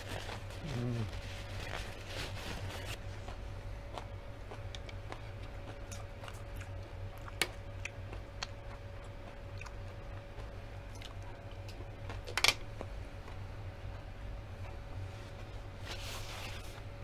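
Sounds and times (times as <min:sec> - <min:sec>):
person chewing and crunching: 0:00.0 - 0:14.8
steady low hum: 0:00.0 - 0:17.0.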